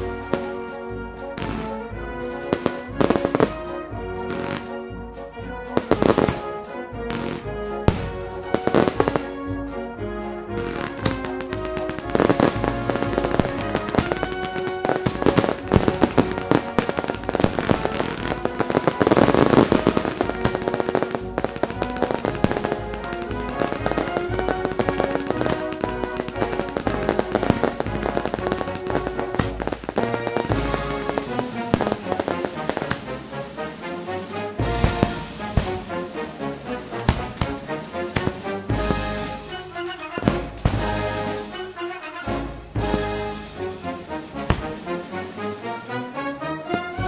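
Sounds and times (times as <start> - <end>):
fireworks bangs and crackles: 0.0 - 47.0
music playing: 0.0 - 47.0.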